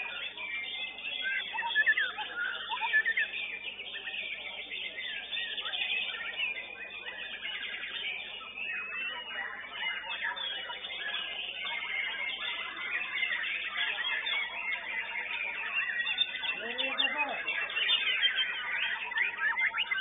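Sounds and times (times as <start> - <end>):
songbirds singing chorus: 0.0 - 20.0.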